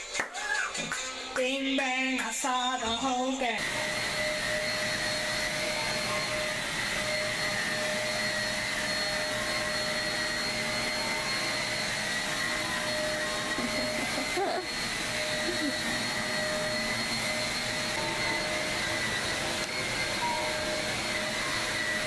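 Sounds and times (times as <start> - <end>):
vacuum cleaner motor whining: 3.1 - 22.0.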